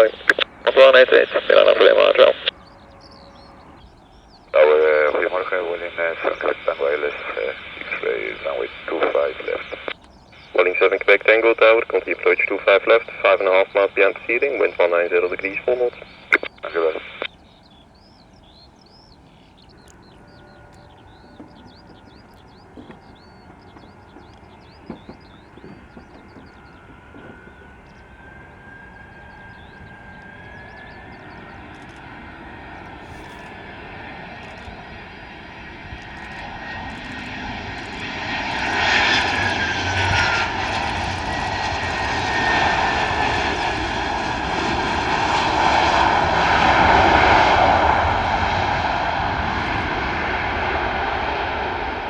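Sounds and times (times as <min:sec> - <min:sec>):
jet airliner roaring past: 0:00.0 - 0:52.0
turbine whine: 0:00.0 - 0:52.0.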